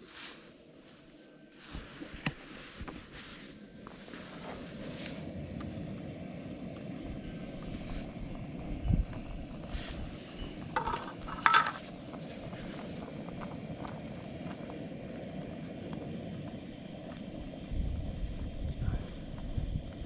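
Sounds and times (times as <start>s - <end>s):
camping stove burner running: 1.4s - 20.0s.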